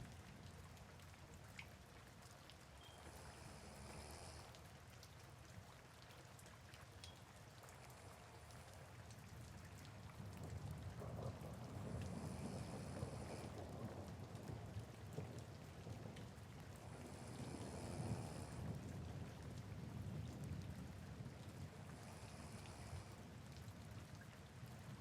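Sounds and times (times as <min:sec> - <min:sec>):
soft rain: 0:00.0 - 0:25.0.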